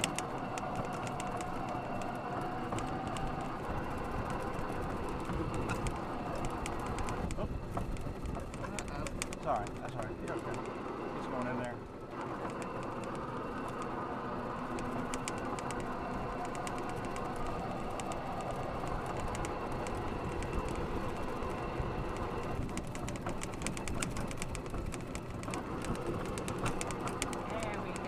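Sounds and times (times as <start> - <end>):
cart body rattling: 0.0 - 28.0
golf cart rumbling: 0.0 - 28.0.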